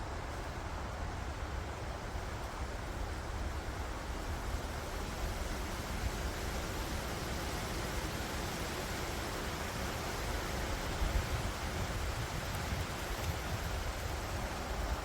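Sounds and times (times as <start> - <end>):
leaves rustling in wind: 0.0 - 15.0
low wind rumble: 0.0 - 15.0.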